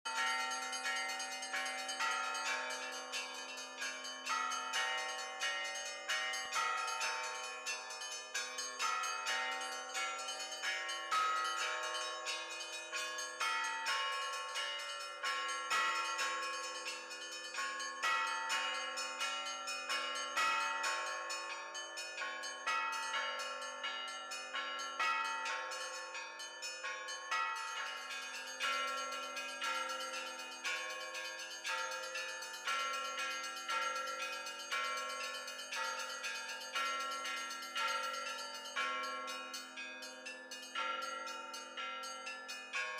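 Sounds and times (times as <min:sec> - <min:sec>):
small high bells struck rhythmically: 0:00.0 - 0:42.9
large low bells ringing: 0:00.1 - 0:42.9.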